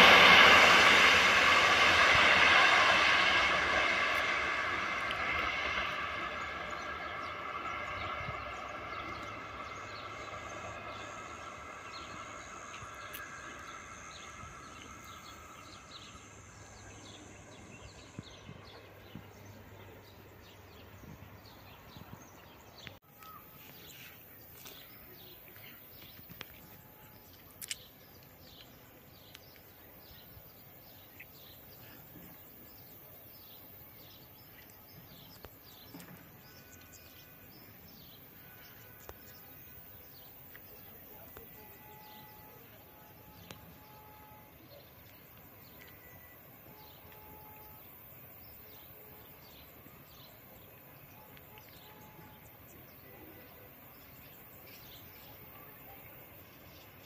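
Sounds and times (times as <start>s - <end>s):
birds chirping: 0.0s - 57.0s
train rumble and wheel noise: 0.0s - 57.0s.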